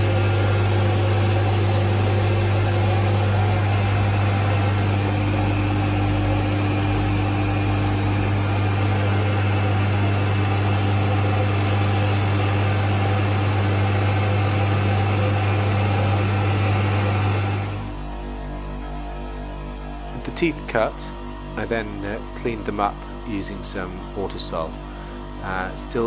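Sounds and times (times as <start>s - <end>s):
lathe motor humming: 0.0s - 26.0s.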